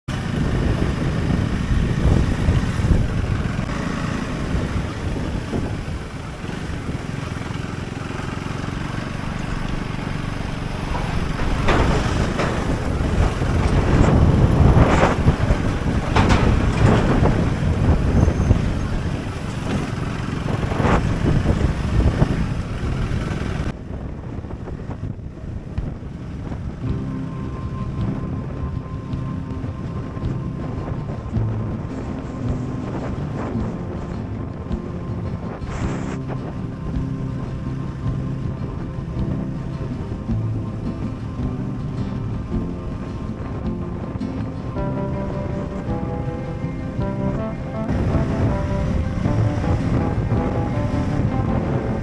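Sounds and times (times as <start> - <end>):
motorcycle engine and road noise: 0.0 - 52.0
wind buffeting microphone: 0.1 - 52.0.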